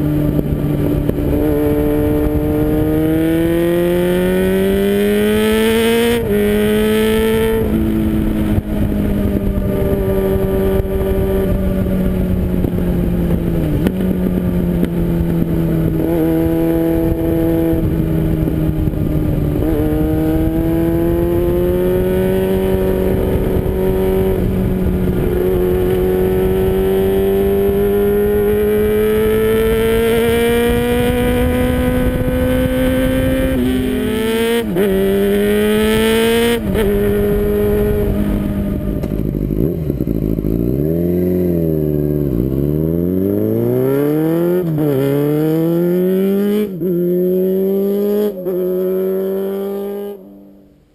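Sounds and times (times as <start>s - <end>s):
motorcycle engine running: 0.0s - 50.6s.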